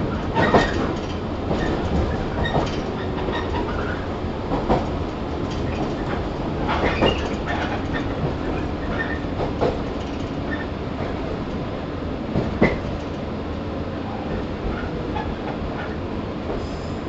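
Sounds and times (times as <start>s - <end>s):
clacks over rail joints: 0.0s - 11.7s, 12.3s - 13.3s, 14.0s - 16.6s
rumble of wheels on rail: 0.0s - 17.0s.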